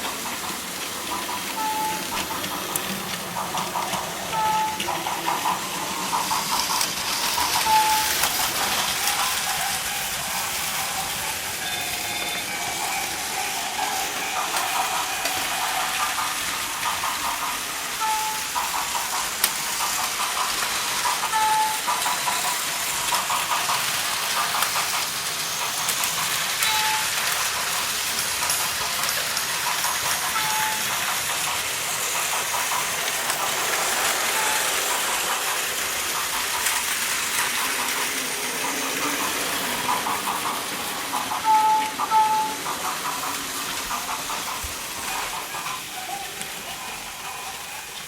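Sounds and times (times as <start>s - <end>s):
toy trains whirring and clattering: 0.0s - 48.0s.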